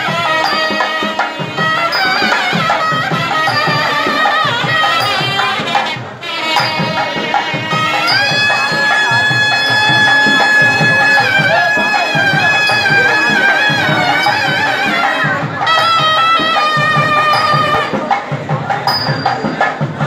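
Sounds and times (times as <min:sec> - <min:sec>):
double reed horn melody: 0:00.0 - 0:18.0
drum strokes: 0:00.0 - 0:20.0.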